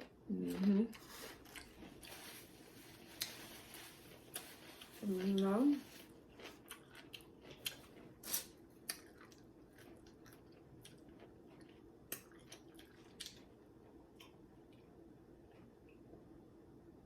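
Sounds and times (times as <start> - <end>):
mouth chewing food: 0.0 - 16.1.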